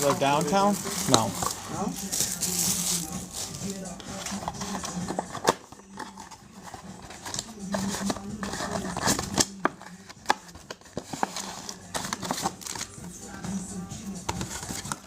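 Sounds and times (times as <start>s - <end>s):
trading cards and wrappers rustling: 0.0s - 15.0s.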